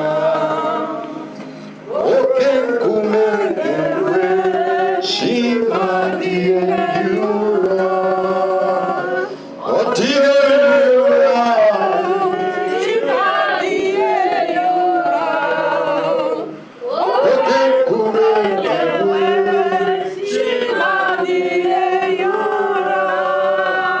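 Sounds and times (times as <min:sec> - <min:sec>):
person singing into a microphone: 0:00.0 - 0:24.0.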